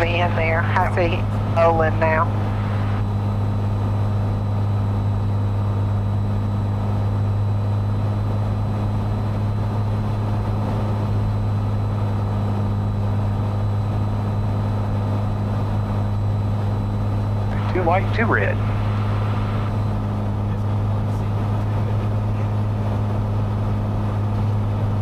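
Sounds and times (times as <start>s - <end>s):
aircraft piston engine and propeller drone: 0.0s - 25.0s.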